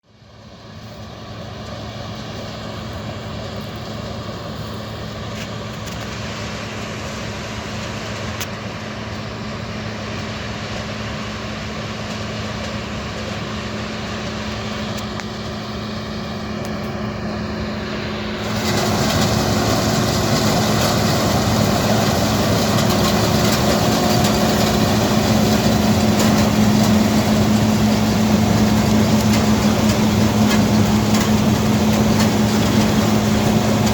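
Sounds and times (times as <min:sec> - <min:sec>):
combine harvester engine hum: 0:00.0 - 0:33.9.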